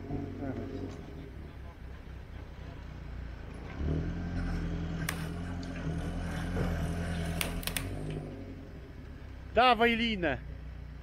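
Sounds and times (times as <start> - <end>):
off-road engine revving: 0.0 - 11.0.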